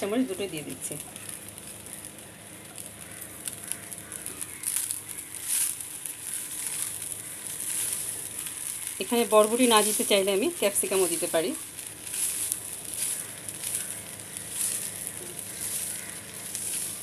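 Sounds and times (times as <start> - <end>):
fried rice sizzling in a pan: 0.0 - 17.0.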